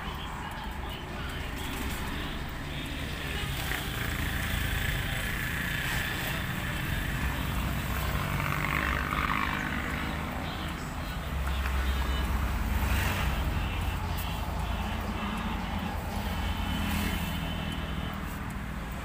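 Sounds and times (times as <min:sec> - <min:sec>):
road traffic rumble: 0:00.0 - 0:19.0
vehicle passing: 0:00.0 - 0:19.0.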